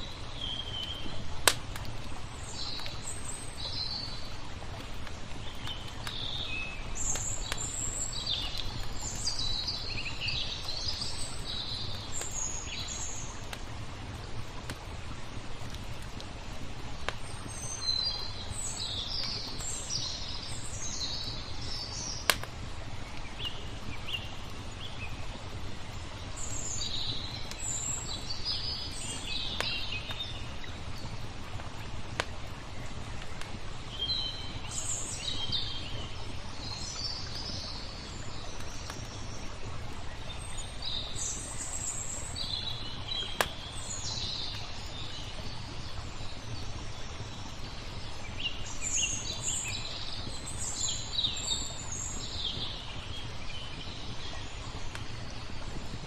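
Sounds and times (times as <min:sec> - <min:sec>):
small birds chirping: 0:00.0 - 0:13.7, 0:15.6 - 0:56.0
flowing water: 0:00.0 - 0:56.0
fire popping: 0:00.2 - 0:39.4, 0:42.3 - 0:48.4, 0:51.4 - 0:56.0.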